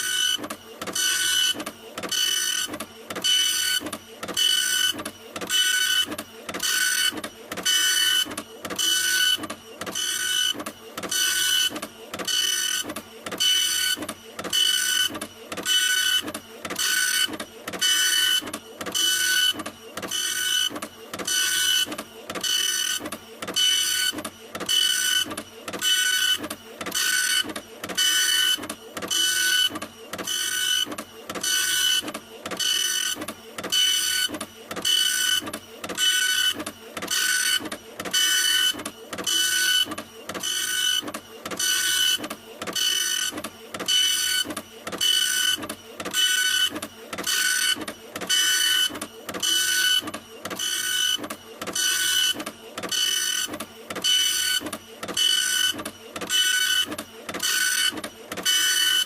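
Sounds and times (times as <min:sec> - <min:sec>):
printer whirring: 0:00.0 - 0:59.0.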